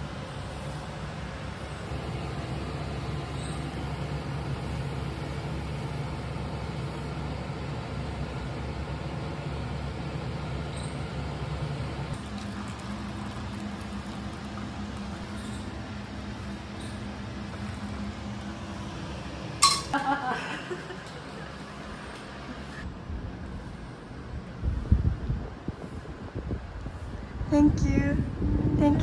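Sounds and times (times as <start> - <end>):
hum: 0.0 - 29.0.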